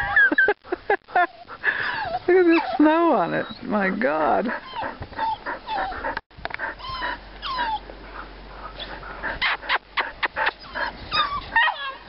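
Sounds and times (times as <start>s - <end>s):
small dogs whining and yipping: 1.2s - 7.8s, 8.8s - 12.0s.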